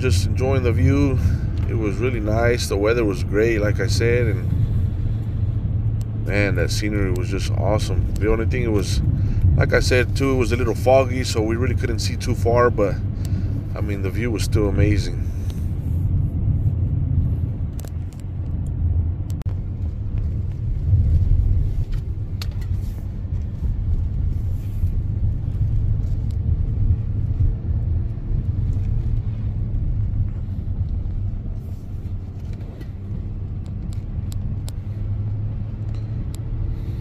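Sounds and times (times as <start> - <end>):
engine and tyre rumble: 0.0 - 37.0.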